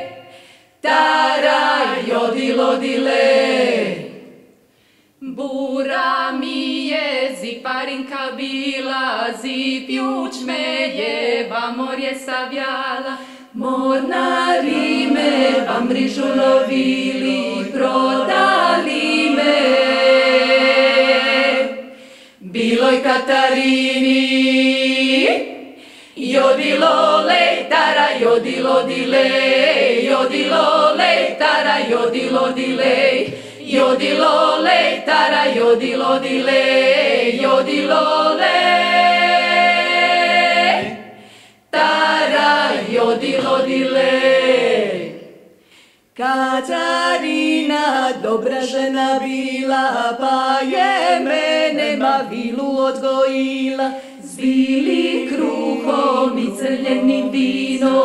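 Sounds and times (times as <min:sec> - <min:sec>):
women singing a cappella: 0:00.0 - 0:58.0.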